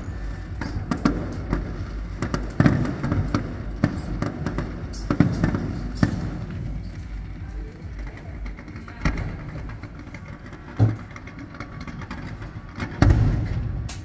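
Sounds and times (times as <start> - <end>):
firework crackles and pops: 0.0 - 14.0
firework shells bursting: 0.0 - 14.0.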